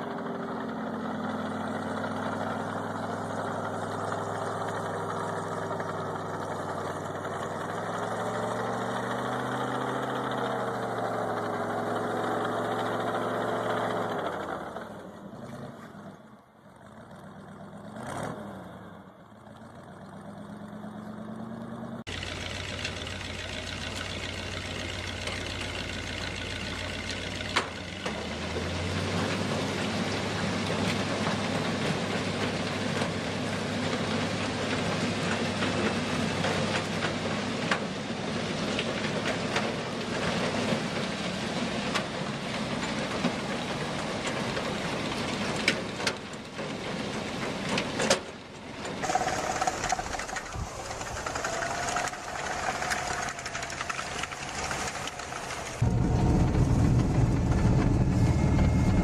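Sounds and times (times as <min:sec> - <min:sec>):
heavy machine engine running: 0:00.0 - 0:15.0, 0:22.1 - 0:48.0, 0:48.6 - 0:59.0
noisy engine rumble: 0:00.0 - 0:59.0.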